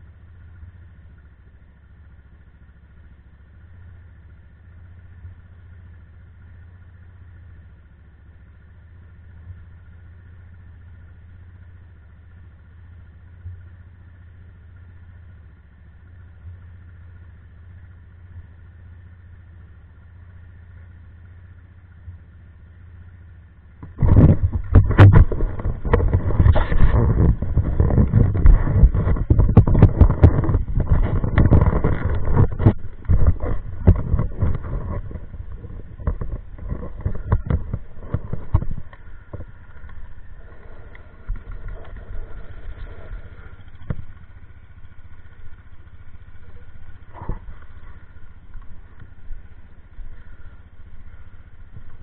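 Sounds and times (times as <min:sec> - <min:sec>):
quad engine idling: 0:00.0 - 0:52.0
quad engine pulling away: 0:00.0 - 0:52.0.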